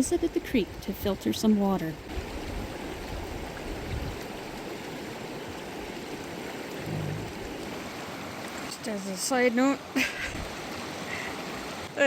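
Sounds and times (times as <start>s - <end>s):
water rushing over rocks: 2.1s - 12.0s.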